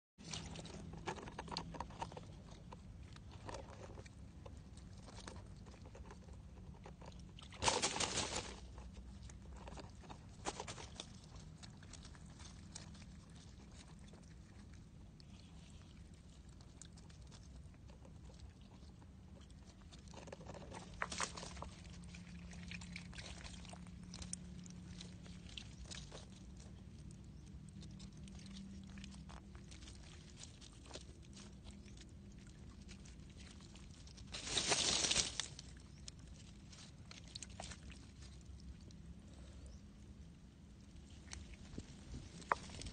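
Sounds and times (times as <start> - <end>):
hands rummaging in mud and leaves: 0.2 - 13.9, 20.1 - 39.8, 40.9 - 42.9.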